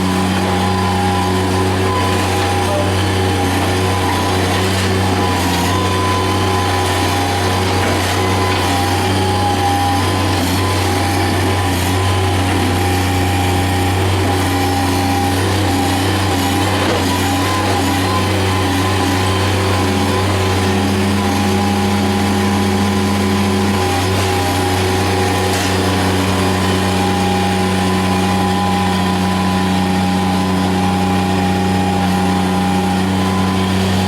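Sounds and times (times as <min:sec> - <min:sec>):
machine engine running: 0:00.0 - 0:34.0.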